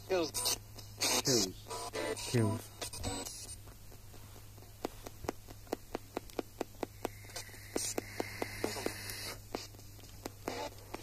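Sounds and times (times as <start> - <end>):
faint high whine: 0.0 - 11.0
faint static: 0.0 - 11.0
rapid radio scanning clicks: 0.0 - 11.0
steady low hum: 0.0 - 11.0.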